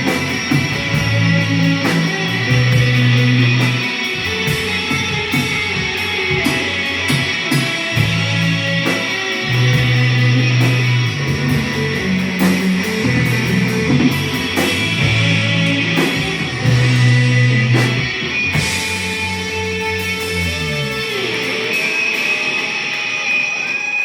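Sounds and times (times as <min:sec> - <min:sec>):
guitar-led rock music: 0:00.0 - 0:24.0.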